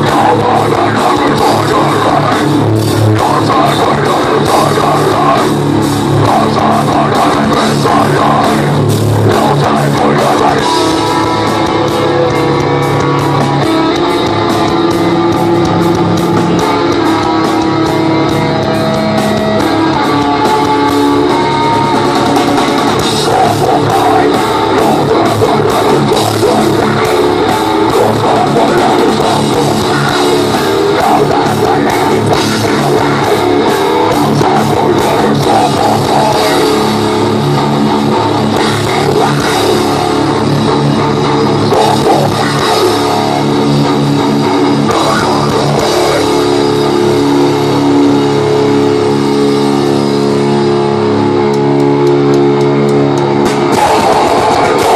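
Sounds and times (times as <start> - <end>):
live metal band playing: 0.0 - 54.9.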